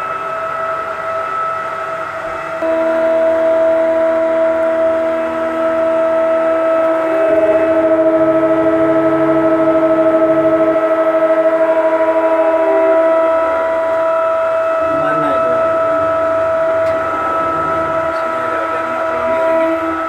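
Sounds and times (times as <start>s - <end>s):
crane machinery whining: 0.0s - 20.0s.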